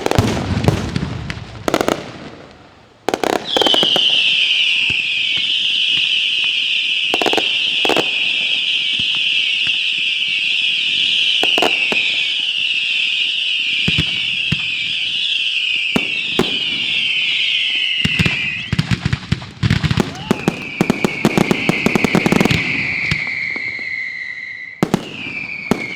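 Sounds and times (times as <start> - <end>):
firework bangs: 0.0 - 25.9
fireworks whistles screaming: 3.1 - 25.9.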